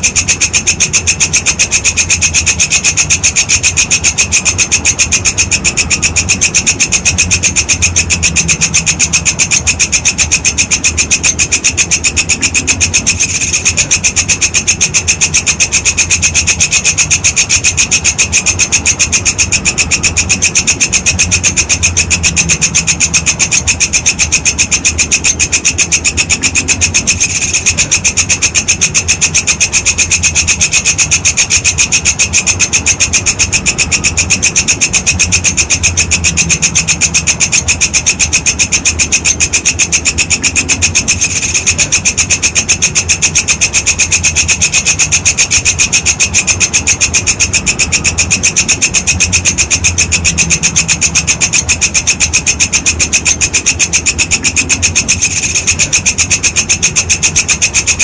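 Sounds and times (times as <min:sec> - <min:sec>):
insect stridulating: 0:00.0 - 0:58.0.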